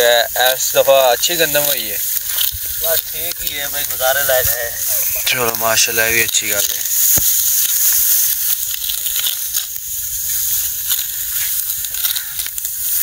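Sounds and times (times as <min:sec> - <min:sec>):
wheat stalks rustling and crackling: 0:00.0 - 0:13.0.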